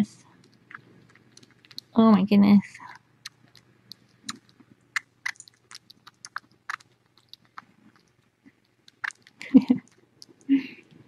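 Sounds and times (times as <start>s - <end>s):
kitten suckling soft clicks: 0.4s - 1.9s, 3.2s - 11.0s.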